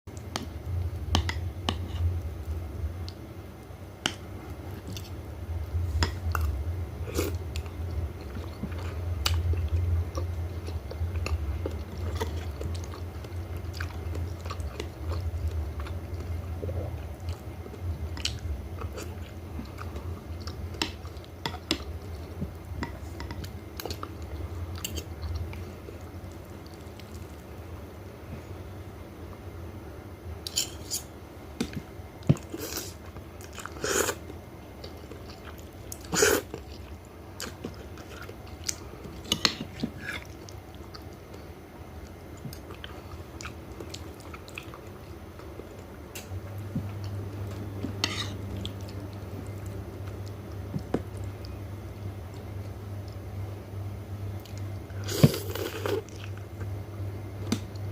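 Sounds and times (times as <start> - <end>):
chewing and wet mouth sounds: 4.1 - 27.6, 30.4 - 53.3, 54.3 - 56.8.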